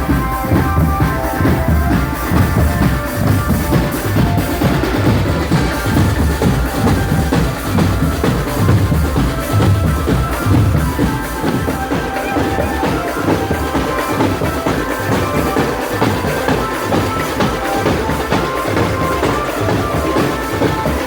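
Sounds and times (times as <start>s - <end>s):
bass drums and snares: 0.0s - 21.0s.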